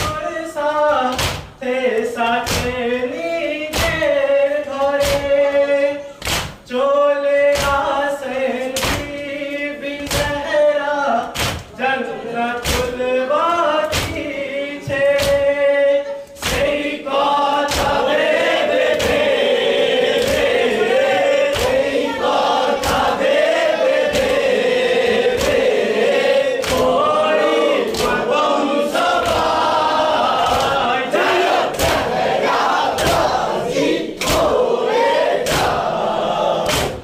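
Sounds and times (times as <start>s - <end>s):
group of men singing: 0.0s - 37.0s.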